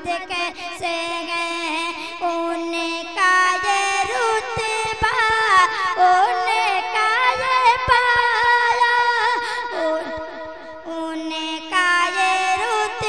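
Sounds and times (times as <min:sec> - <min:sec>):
wordless melodic singing: 0:00.0 - 0:13.0.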